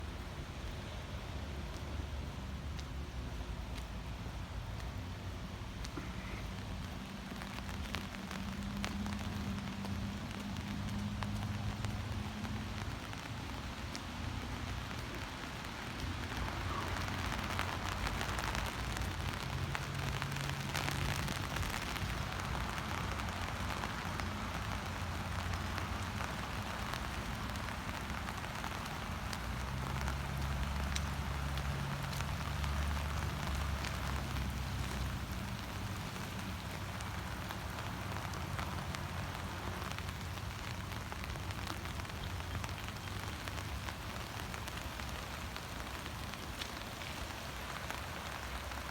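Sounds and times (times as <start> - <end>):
heavy rain hissing: 0.0 - 48.9.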